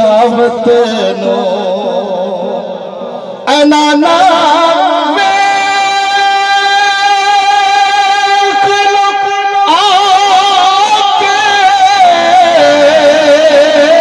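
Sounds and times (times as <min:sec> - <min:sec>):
man singing into microphone: 0:00.0 - 0:14.0.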